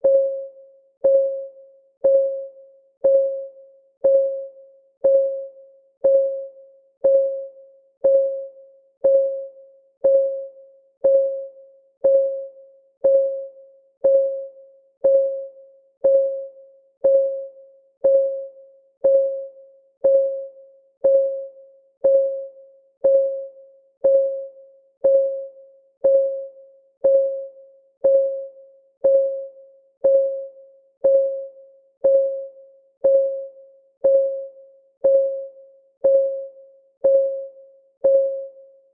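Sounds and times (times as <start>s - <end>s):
clock ticking with ring: 0.0s - 38.7s.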